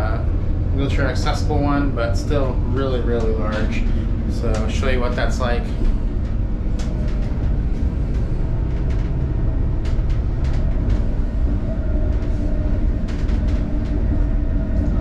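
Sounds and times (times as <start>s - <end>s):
faint hum: 0.0s - 15.0s
light clicks and rattles: 0.0s - 15.0s
train interior rumble: 0.0s - 15.0s.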